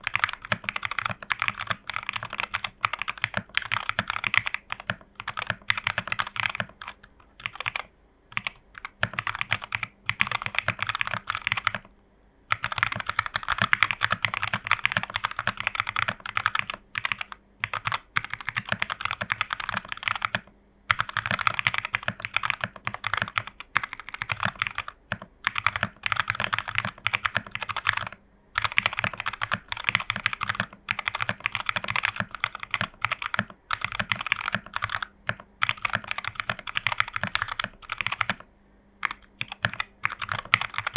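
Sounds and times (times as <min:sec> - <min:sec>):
fast mechanical keyboard typing: 0:00.0 - 0:11.9, 0:12.5 - 0:38.4, 0:39.0 - 0:40.9.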